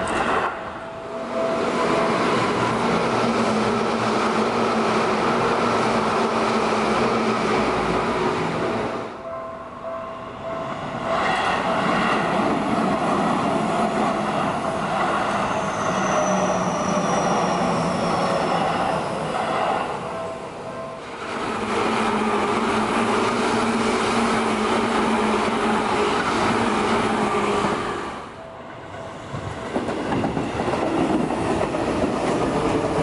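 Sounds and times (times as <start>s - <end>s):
electric trains passing: 0.0s - 33.0s.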